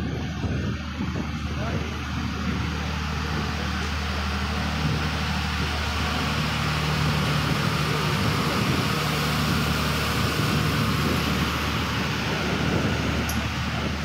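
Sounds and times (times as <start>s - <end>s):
diesel train engine idling: 0.0s - 14.0s.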